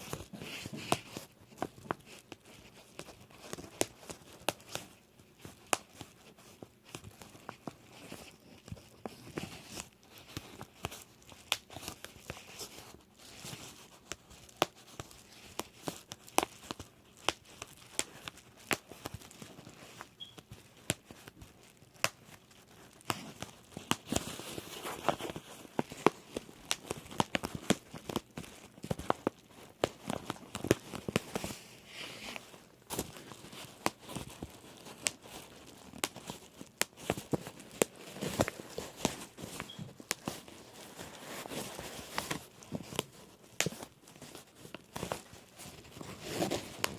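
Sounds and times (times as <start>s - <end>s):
bubble wrap popping: 0.0s - 46.9s
plastic sheet crinkling: 0.0s - 46.9s.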